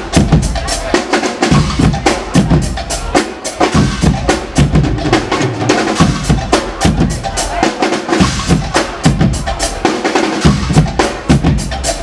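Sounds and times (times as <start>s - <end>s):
carnival band playing: 0.0s - 12.0s
drums and cymbals: 0.0s - 12.0s.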